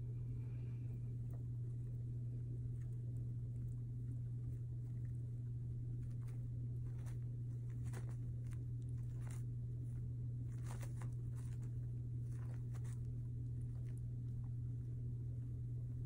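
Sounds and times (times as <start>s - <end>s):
guinea pig rustling in hay: 0.0s - 16.0s
low hum: 0.0s - 16.0s.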